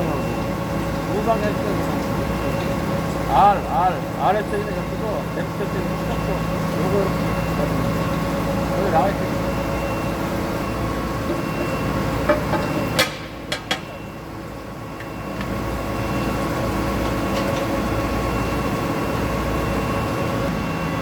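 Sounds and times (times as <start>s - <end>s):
grinding machine humming: 0.0s - 21.0s.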